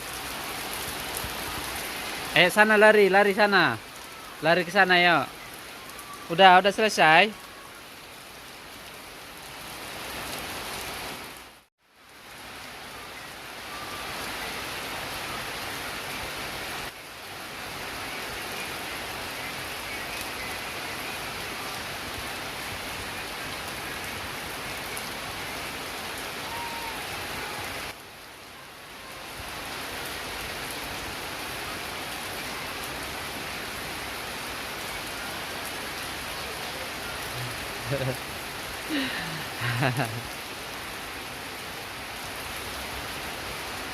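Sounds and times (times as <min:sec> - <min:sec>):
rain pouring: 0:00.0 - 0:43.9.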